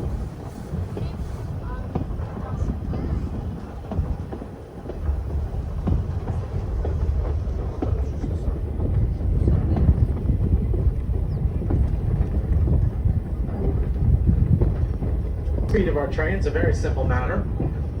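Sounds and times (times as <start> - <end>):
train coach rumbling on track: 0.0 - 18.0.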